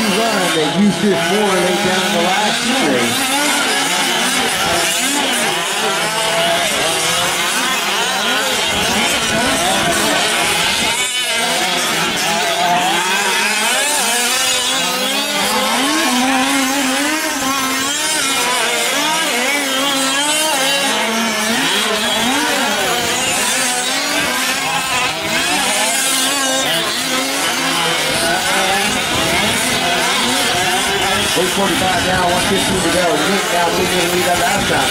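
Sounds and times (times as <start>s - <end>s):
rc truck engines revving: 0.0s - 34.9s.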